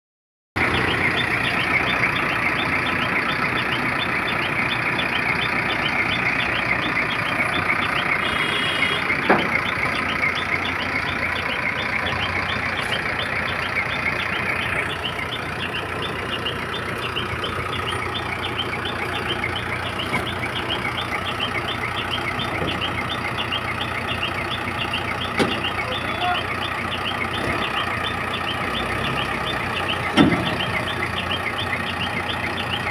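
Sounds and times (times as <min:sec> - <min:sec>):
diesel engine running: 0:00.6 - 0:32.9.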